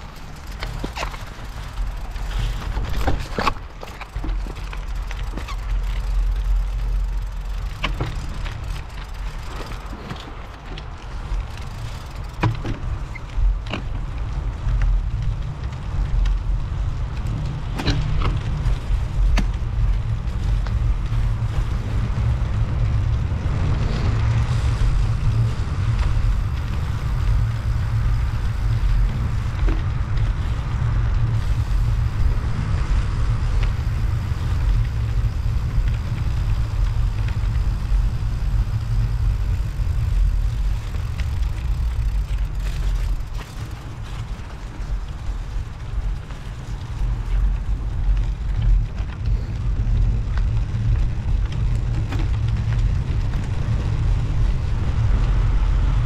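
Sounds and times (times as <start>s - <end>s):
bicycle clicks and knocks: 0.0s - 56.0s
wind rumble on microphone: 0.0s - 56.0s.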